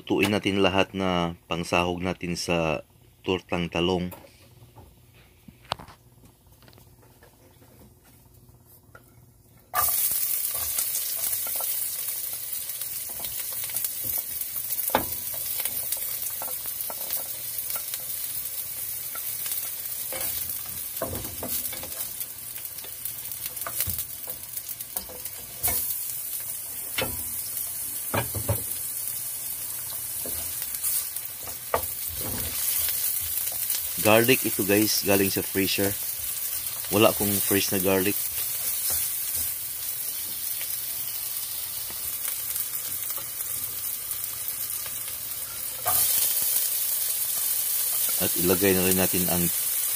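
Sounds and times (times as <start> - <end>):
onion sizzling in hot oil: 9.7 - 49.9.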